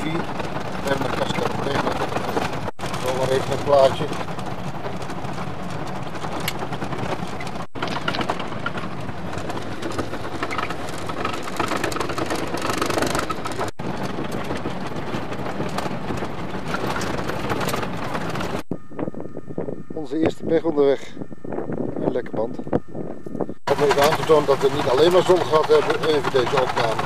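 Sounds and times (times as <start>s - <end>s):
car engine and road noise: 0.0s - 19.8s, 22.7s - 27.0s.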